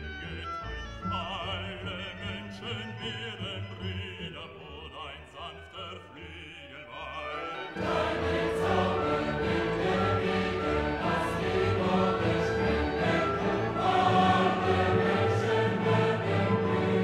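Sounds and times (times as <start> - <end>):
classical background music: 0.0 - 17.0.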